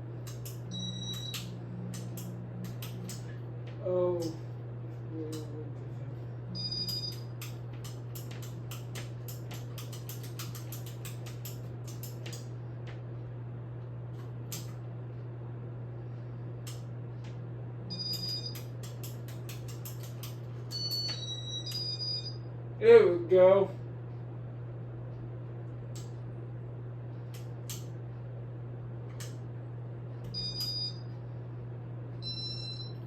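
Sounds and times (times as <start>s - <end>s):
ceiling fan motor humming: 0.0s - 33.0s.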